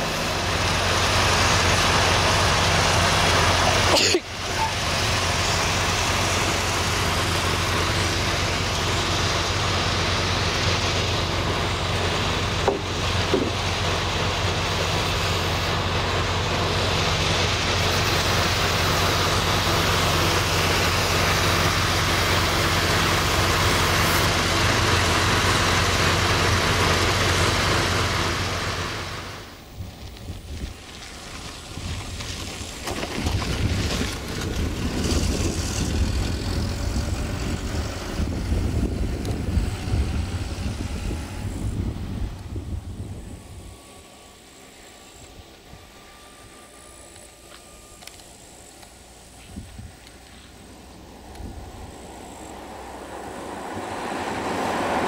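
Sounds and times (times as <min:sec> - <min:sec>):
large machinery engine humming: 0:00.0 - 0:55.0
outdoor noise: 0:00.0 - 0:55.0.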